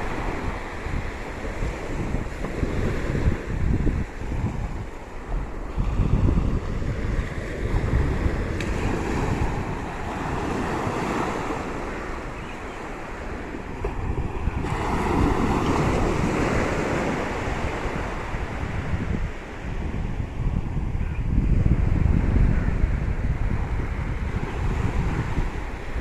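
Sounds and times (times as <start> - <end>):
sea waves washing onto shore: 0.0 - 26.0
wind buffeting microphone: 0.0 - 26.0.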